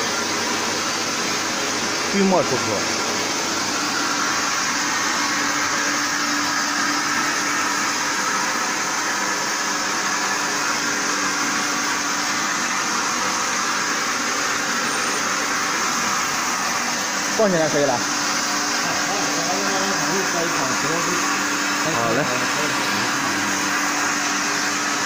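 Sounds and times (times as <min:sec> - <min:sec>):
washing machine whirring: 0:00.0 - 0:25.0.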